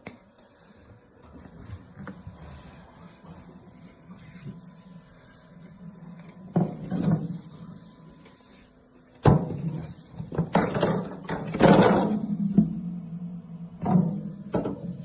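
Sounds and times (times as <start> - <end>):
rustling and scraping: 0.4 - 12.8.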